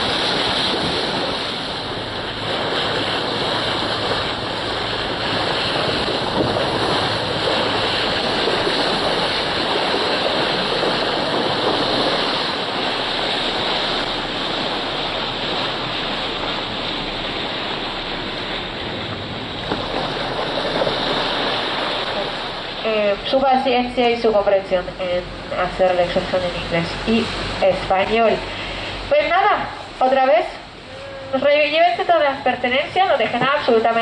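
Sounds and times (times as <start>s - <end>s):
sea water rushing: 0.0s - 34.0s
wind: 0.0s - 34.0s.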